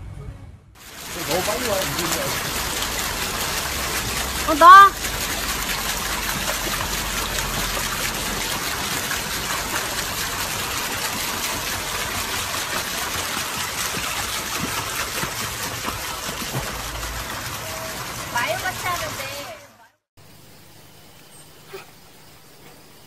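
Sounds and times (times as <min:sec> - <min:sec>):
pool water splashing and trickling: 0:00.8 - 0:19.8.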